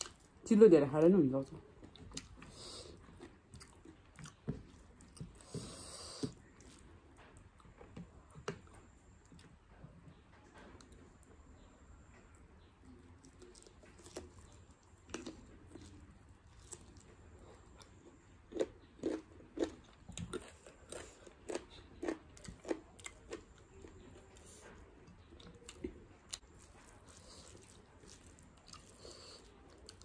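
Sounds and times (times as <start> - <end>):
person chewing with crisp crunches: 0.0 - 0.4, 1.4 - 9.6, 10.5 - 30.0.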